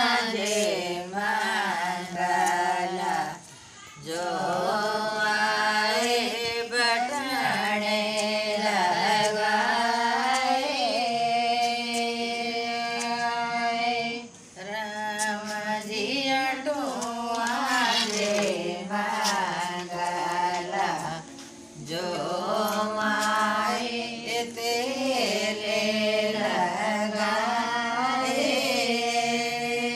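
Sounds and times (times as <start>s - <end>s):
women singing unaccompanied: 0.0s - 29.9s.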